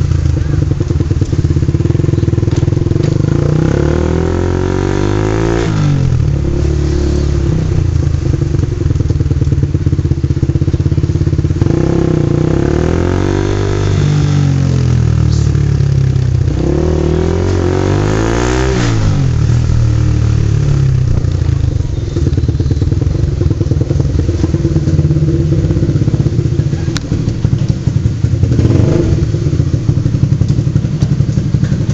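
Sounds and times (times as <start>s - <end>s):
motorcycle engine idling: 0.0s - 31.9s.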